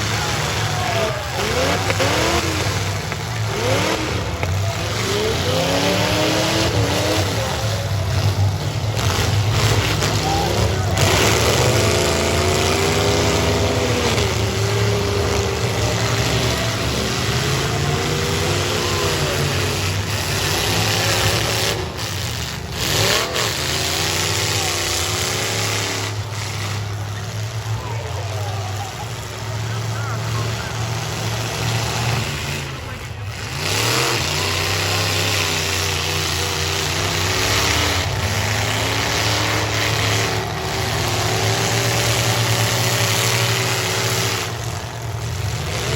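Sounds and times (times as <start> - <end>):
engines revving: 0.0 - 45.9.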